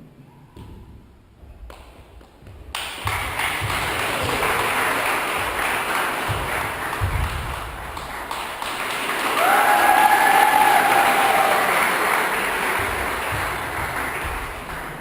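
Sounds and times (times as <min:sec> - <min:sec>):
children applauding: 0:02.8 - 0:15.0.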